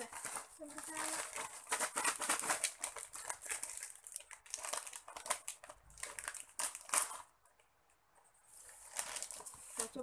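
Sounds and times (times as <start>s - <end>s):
plastic packets crinkling: 0.0s - 7.7s, 8.6s - 10.0s.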